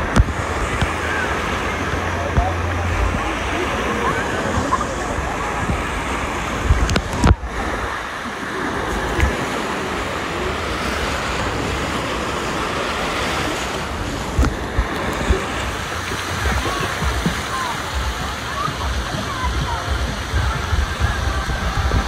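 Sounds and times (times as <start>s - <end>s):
waves sloshing in pool: 0.0s - 22.0s
wind on microphone: 0.0s - 22.0s.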